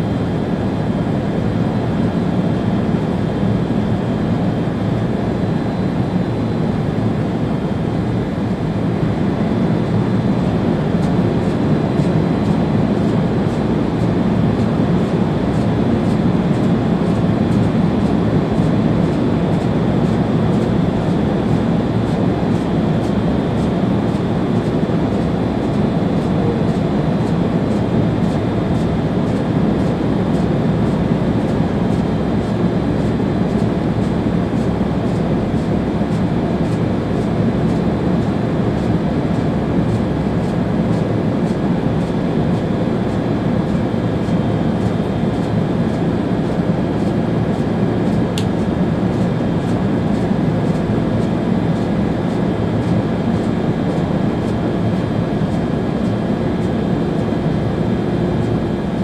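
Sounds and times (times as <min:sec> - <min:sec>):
train wheels rumbling on rail: 0:09.9 - 0:59.0.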